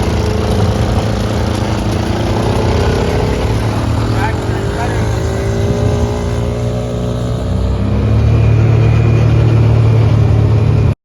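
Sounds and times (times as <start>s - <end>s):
small gas engine revving: 0.0s - 11.0s.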